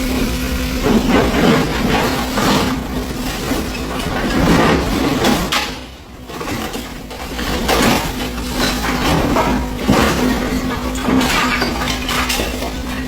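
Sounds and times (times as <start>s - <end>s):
excavator engine under load: 0.0s - 13.0s
rubble scraping and crashing: 0.8s - 13.0s.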